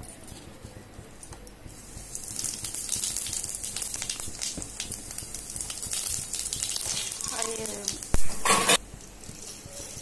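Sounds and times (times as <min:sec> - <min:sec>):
seeds sizzling in hot oil: 0:01.6 - 0:10.0.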